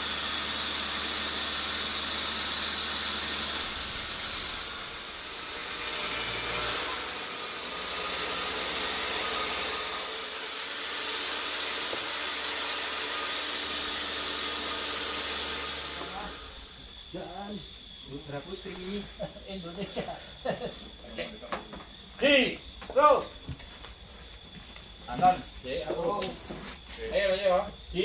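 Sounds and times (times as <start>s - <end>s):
steady high hiss: 3.4s - 28.0s.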